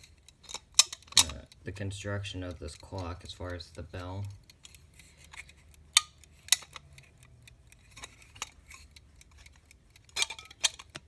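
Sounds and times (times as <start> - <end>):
metallic clicks and clinks: 0.0 - 11.0.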